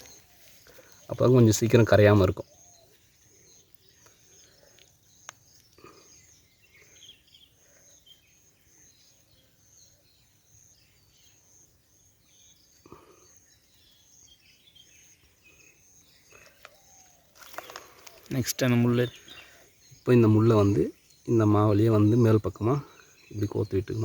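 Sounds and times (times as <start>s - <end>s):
faint scattered chirps: 0.0s - 24.0s.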